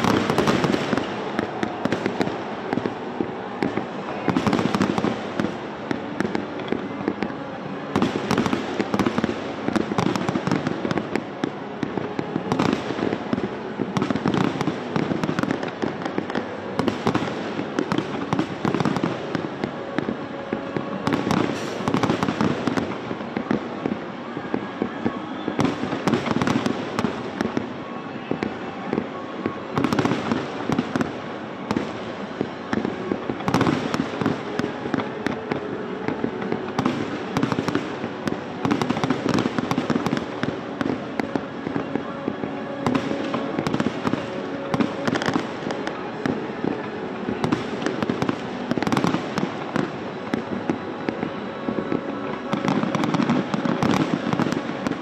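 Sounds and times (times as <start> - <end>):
fireworks bursts and bangs: 0.0 - 55.0.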